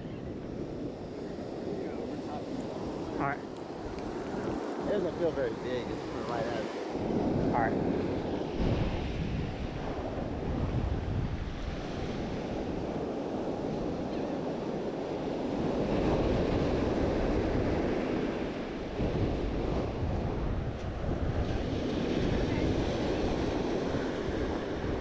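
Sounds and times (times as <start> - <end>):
ocean surf breaking on beach: 0.0 - 25.0
wind buffeting microphone: 0.0 - 25.0.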